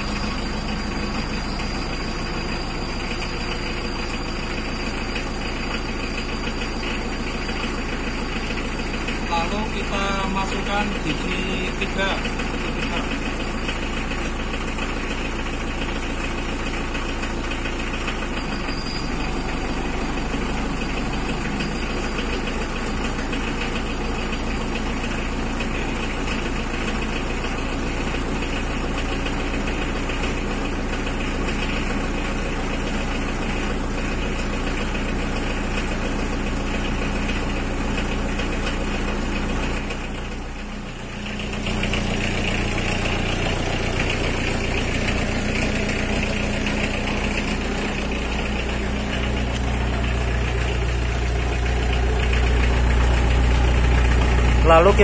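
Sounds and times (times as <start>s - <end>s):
engine and drivetrain drone: 0.0s - 55.0s.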